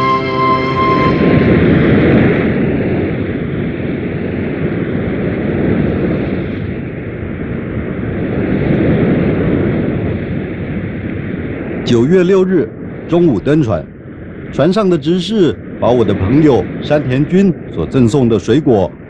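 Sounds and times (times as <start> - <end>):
rushing rumble: 0.0 - 19.0.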